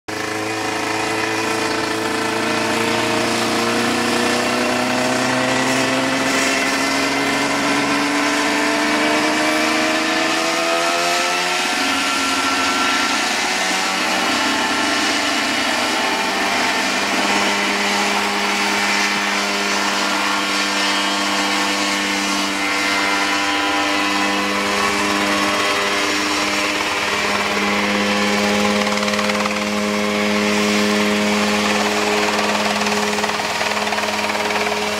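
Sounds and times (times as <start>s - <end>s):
helicopter engine running up: 0.1s - 34.9s.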